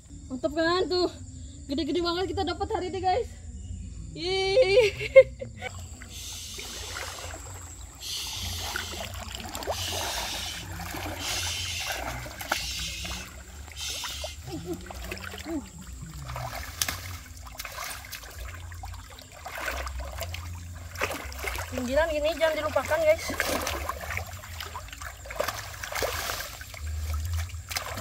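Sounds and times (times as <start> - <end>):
water splashing and trickling: 5.6 - 28.0.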